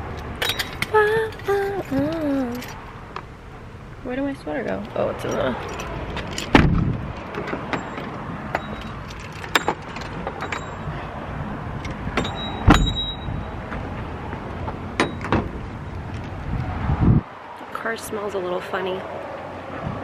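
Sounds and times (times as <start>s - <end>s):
steady low rumble: 0.0s - 17.3s.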